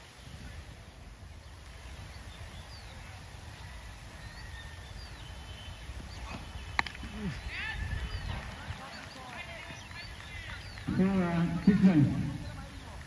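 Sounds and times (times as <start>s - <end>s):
faint bird chirps: 1.3s - 12.8s.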